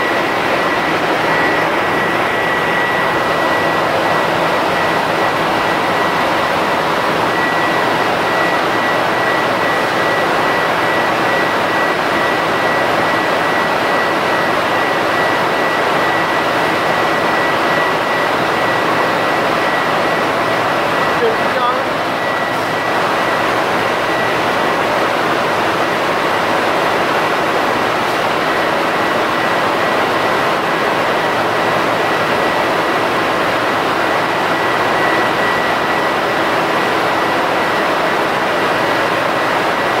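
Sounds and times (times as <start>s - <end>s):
constant high-pitched whine: 0.0s - 40.0s
factory machinery roaring: 0.0s - 40.0s.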